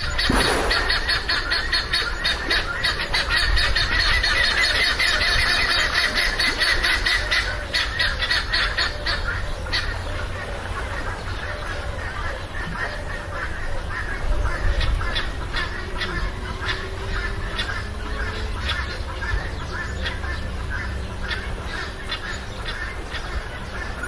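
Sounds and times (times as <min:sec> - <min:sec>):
waterfowl calling: 0:00.0 - 0:24.0.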